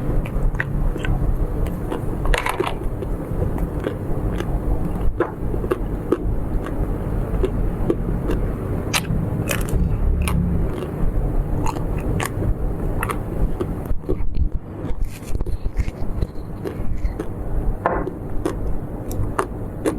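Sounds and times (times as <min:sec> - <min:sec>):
biting and chewing crisp food: 0:00.0 - 0:19.9.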